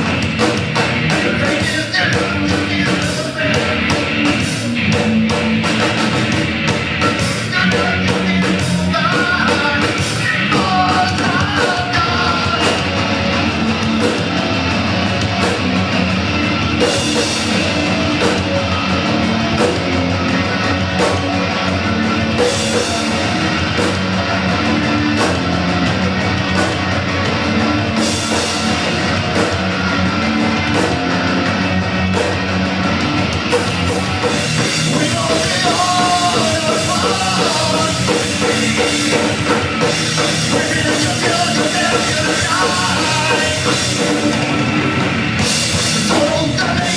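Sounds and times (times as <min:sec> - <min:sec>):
drum kit beat: 0:00.0 - 0:46.9
electric guitar: 0:00.0 - 0:46.9.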